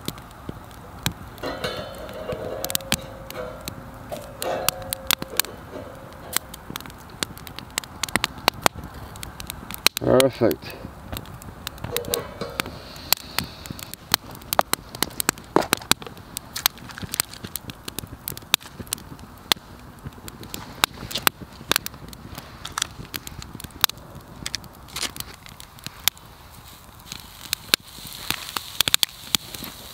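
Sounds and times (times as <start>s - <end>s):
campfire crackling and popping: 0.0s - 29.9s.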